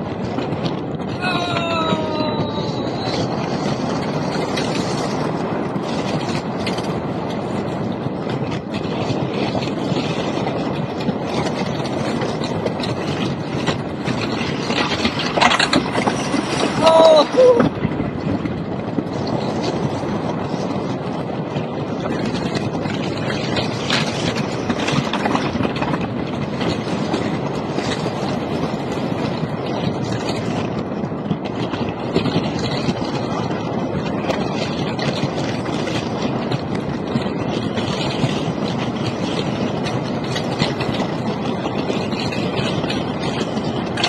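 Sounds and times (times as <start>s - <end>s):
roller coaster rumbling on track: 0.0s - 44.0s
wheels clattering on rails: 0.0s - 44.0s.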